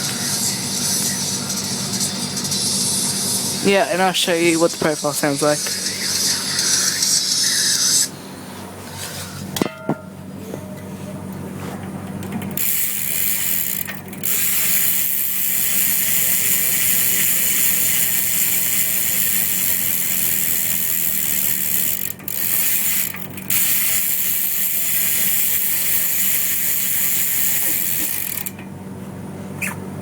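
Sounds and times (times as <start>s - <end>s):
bicycle hub ratcheting buzz: 0.0s - 8.1s, 12.2s - 28.8s.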